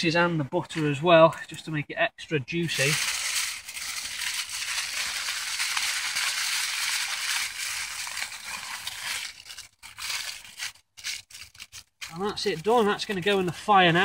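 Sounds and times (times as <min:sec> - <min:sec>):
tin foil crinkling: 0:02.7 - 0:14.0.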